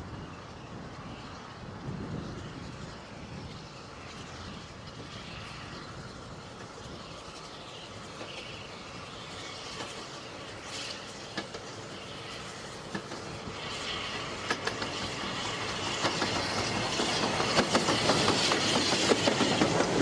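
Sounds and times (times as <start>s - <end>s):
train rolling on track: 0.0s - 20.0s.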